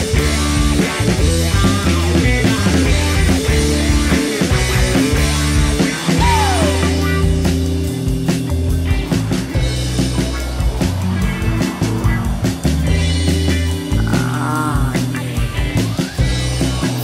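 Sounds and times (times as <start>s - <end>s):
rock music: 0.0s - 17.0s.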